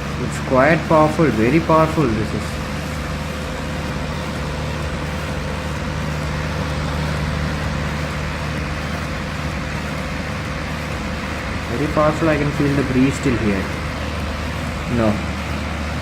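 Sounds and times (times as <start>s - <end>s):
exhaust fan whoosh and hum: 0.0s - 16.0s.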